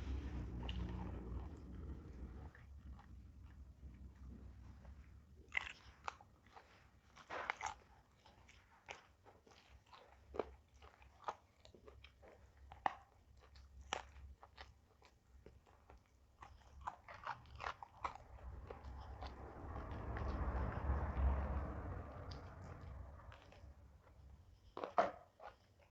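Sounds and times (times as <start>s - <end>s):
crunching and chewing vegetables: 0.0s - 25.9s.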